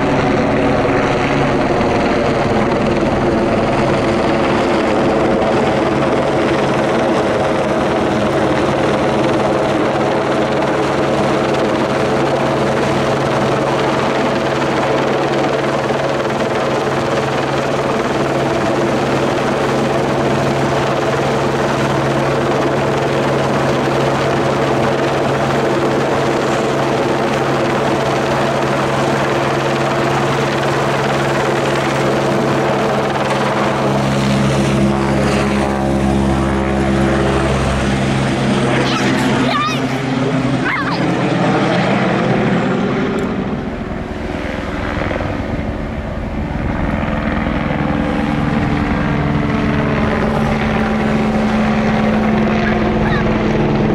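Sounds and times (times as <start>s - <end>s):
helicopter rotor and turbine: 0.0s - 53.9s.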